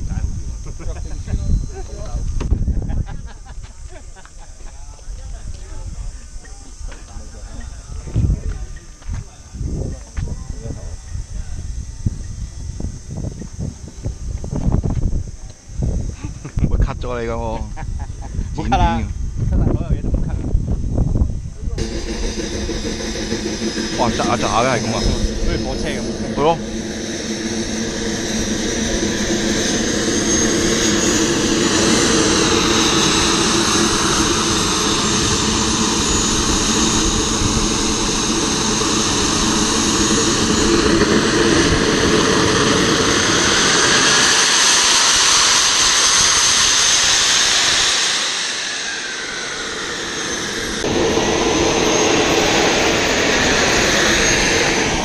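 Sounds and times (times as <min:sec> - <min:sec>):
model turbine engine whine: 0:00.0 - 0:55.0.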